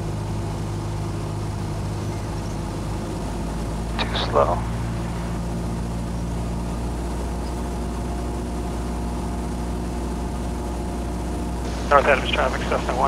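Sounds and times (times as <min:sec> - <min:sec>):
aircraft engine and propeller droning: 0:00.0 - 0:13.0.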